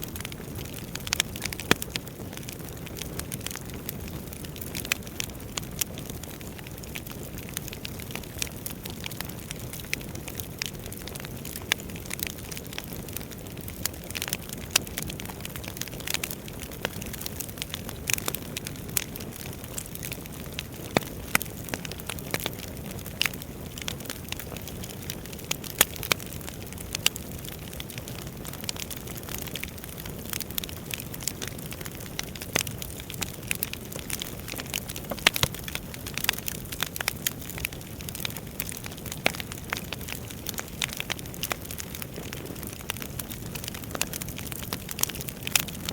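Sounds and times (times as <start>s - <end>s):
fire burning in fireplace: 0.0s - 45.9s
logs crackling and popping: 0.0s - 45.9s.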